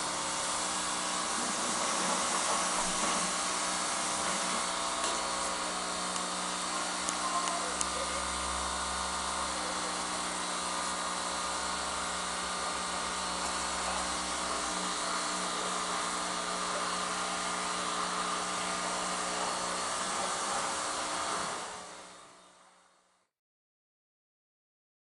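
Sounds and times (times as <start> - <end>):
water jet hissing: 0.0 - 22.1
pressure washer motor hum: 0.0 - 23.2.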